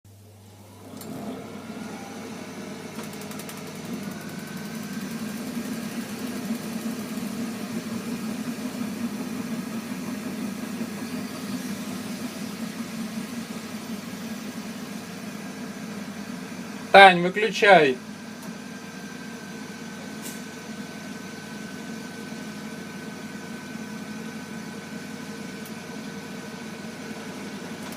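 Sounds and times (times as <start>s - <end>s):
heating boiler droning: 0.1s - 27.9s.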